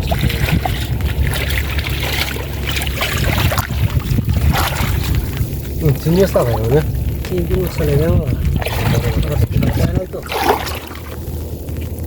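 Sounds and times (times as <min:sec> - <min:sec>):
steady low rumble: 0:00.0 - 0:12.0
water splashing and trickling: 0:00.0 - 0:12.0.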